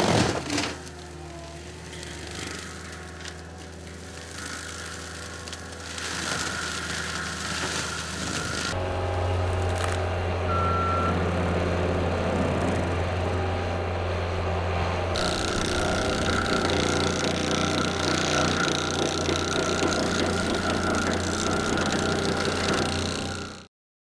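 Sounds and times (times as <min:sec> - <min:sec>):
diesel engine under load: 0:00.0 - 0:23.7
mulcher shredding brush: 0:00.0 - 0:23.7.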